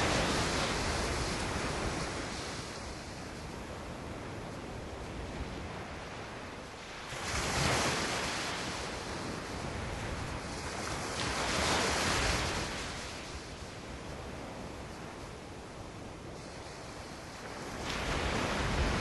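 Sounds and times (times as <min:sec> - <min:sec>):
ocean surf washing: 0:00.0 - 0:19.0
waves breaking: 0:00.0 - 0:19.0.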